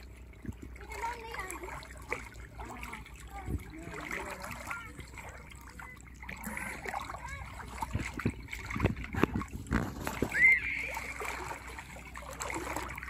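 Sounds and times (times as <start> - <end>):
seawater splashing and trickling: 0.0 - 13.0.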